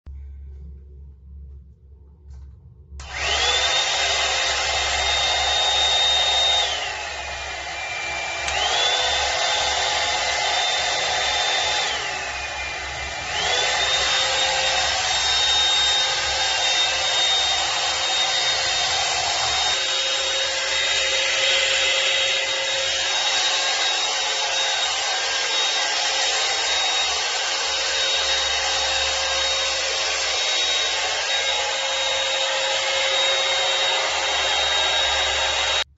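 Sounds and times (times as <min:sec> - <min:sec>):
hair dryer whining: 0:03.0 - 0:35.9.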